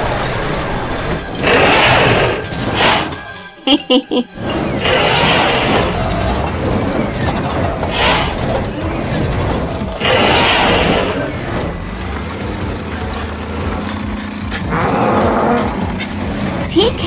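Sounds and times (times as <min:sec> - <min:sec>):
vehicle engine running: 0:00.0 - 0:03.6, 0:04.2 - 0:17.0
mechanical whirring and clanking: 0:00.0 - 0:17.0.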